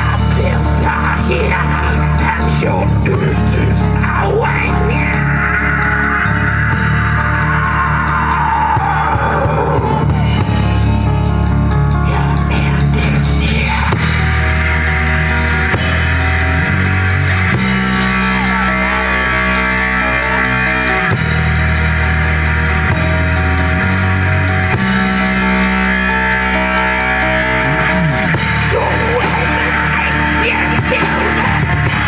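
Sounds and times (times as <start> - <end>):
distorted electric guitars: 0.0 - 32.0
heavy metal band playing live: 0.0 - 32.0.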